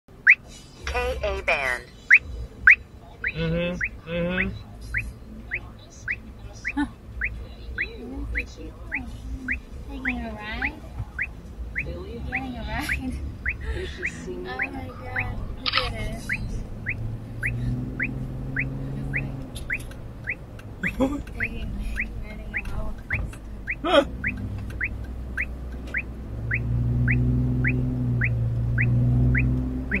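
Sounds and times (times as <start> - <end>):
engine and road rumble: 0.0 - 30.0
turn signal chirp: 0.1 - 0.5, 2.0 - 30.0
vehicle running hum: 0.1 - 30.0.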